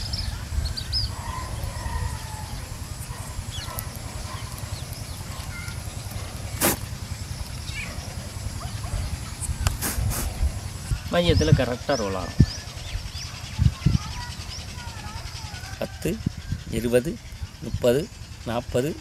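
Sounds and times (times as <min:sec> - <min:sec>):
faint bird chirps: 0:00.0 - 0:19.0
wind rumble on microphone: 0:00.0 - 0:19.0.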